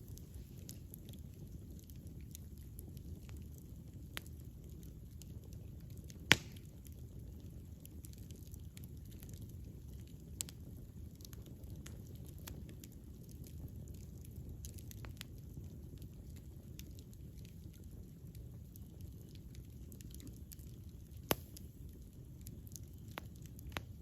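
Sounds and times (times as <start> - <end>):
campfire flames rumbling: 0.0 - 24.0
fire crackling: 0.0 - 24.0.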